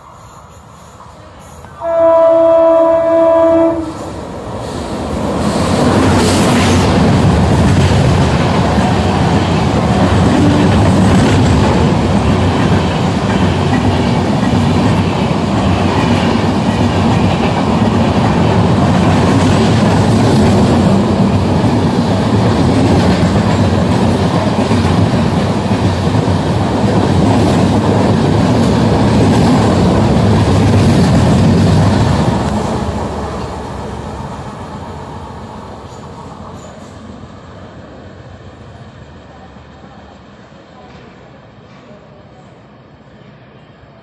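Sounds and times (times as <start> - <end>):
train wheels rushing on rail: 0.0 - 44.0.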